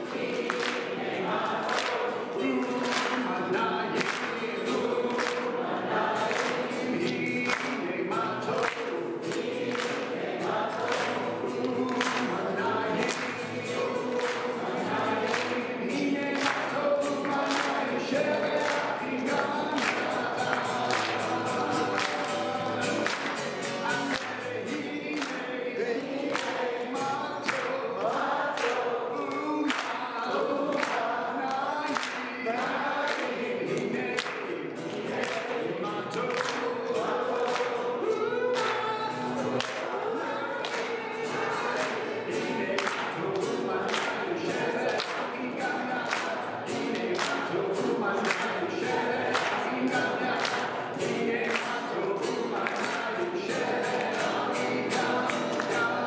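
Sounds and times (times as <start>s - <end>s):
acoustic guitar strumming: 0.0s - 26.0s, 33.6s - 56.0s
congregation singing: 0.0s - 56.0s
hands clapping: 0.0s - 56.0s.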